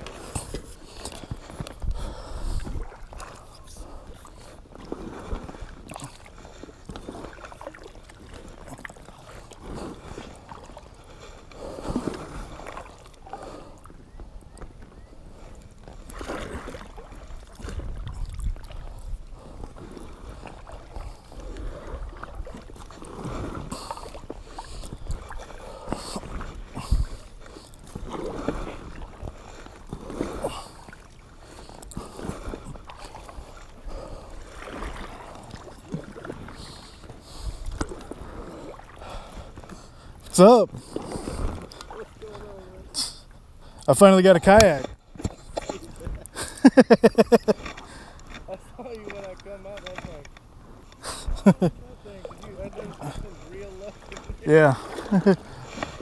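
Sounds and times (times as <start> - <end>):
paddle splashing in water: 0.0 - 56.0.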